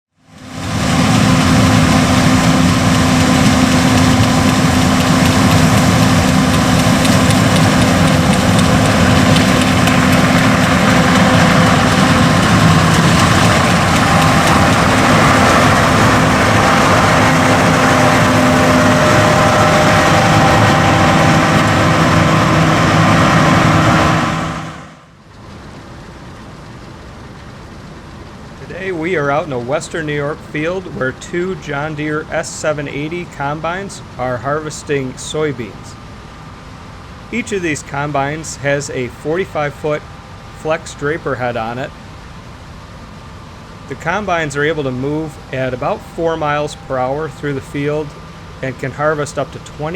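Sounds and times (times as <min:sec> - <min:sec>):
diesel engine running: 0:00.1 - 0:49.9
faint field noise: 0:00.2 - 0:49.9.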